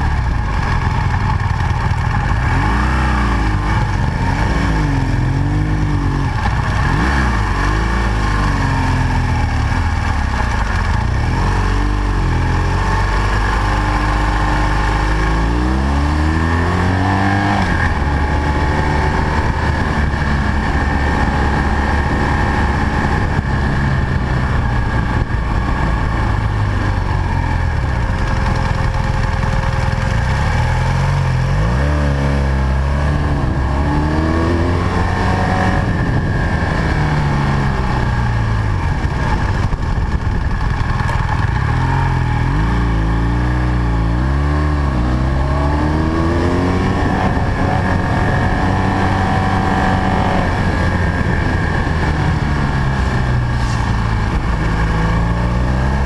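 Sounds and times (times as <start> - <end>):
motorcycle engine revving: 0.0 - 56.0
wind noise: 0.0 - 56.0.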